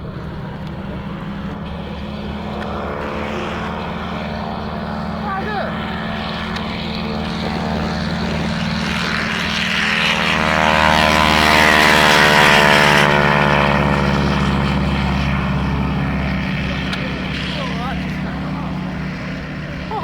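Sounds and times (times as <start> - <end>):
propeller aircraft flying past: 0.0 - 20.0.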